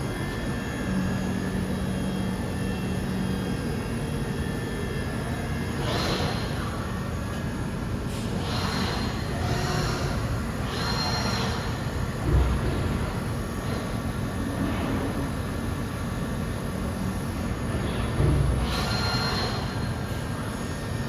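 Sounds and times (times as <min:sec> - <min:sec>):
machine mechanical hum: 0:00.0 - 0:21.0.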